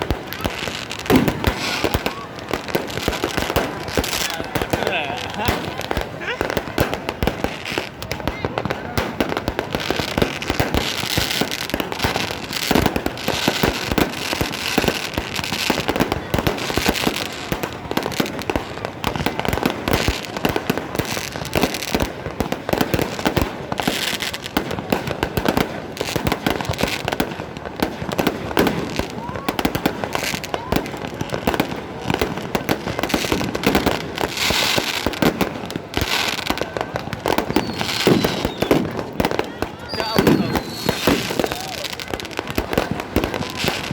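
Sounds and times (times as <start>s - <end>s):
fireworks banging and crackling: 0.0s - 43.9s.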